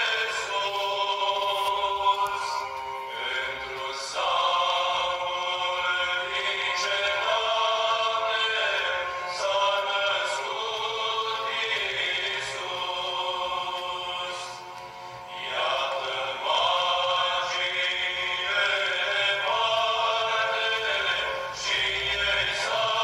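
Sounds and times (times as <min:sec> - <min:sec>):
voices singing long notes: 0:00.0 - 0:23.0.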